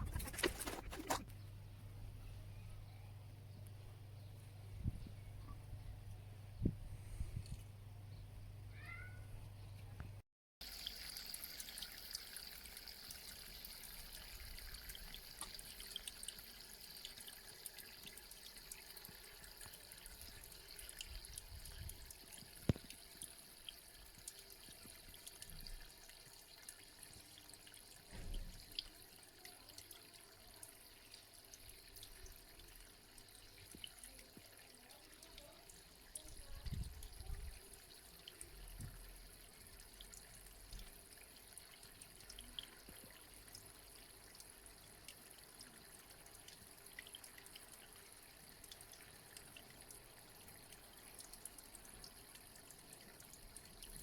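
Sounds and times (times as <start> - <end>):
fountain water trickling: 10.6 - 54.0.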